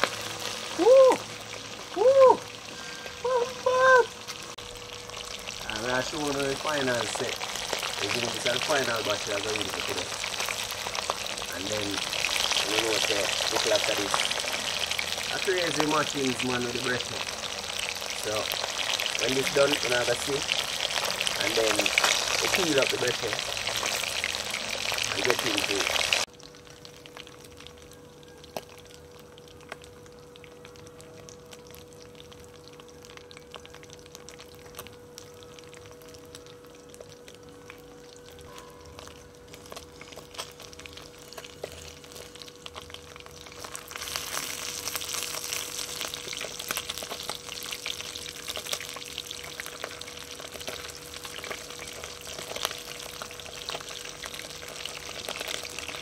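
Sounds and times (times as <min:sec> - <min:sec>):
fish deep-frying in oil: 0:00.0 - 0:56.0.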